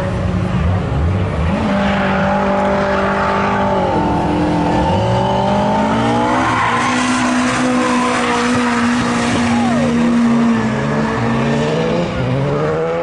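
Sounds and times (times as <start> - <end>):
car engine revving hard: 0.5 - 13.0.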